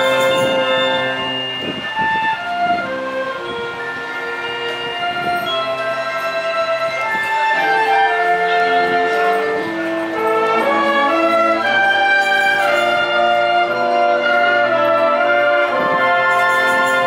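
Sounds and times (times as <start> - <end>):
wind band playing chords: 0.0 - 17.0.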